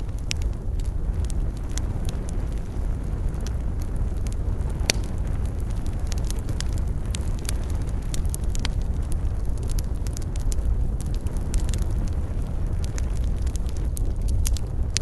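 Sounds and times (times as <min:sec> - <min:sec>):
campfire crackling: 0:00.0 - 0:15.0
low rumble: 0:00.0 - 0:15.0.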